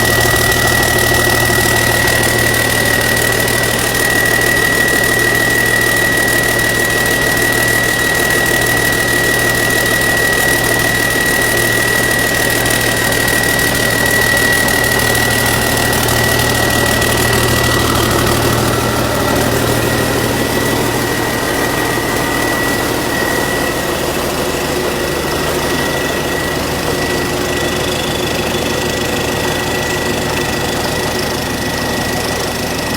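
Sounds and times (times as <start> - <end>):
diesel engine idling with clatter: 0.0 - 32.9
high-pitched whine: 0.0 - 32.9.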